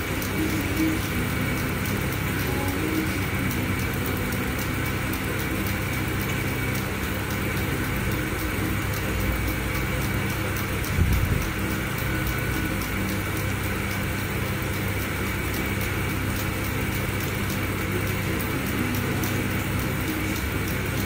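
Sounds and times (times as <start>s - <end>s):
motor hum: 0.0s - 21.0s
rapid even ticking: 0.0s - 21.0s.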